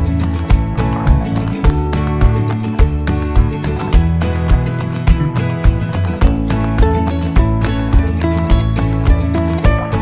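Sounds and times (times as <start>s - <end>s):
upbeat music with guitar: 0.0s - 10.0s.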